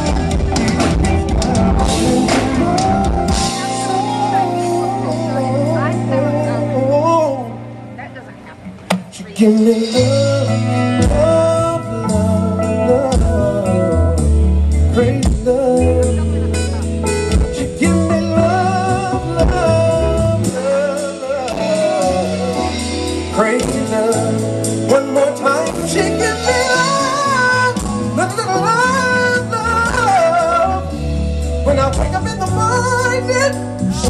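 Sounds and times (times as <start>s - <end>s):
electric bass: 0.0s - 34.0s.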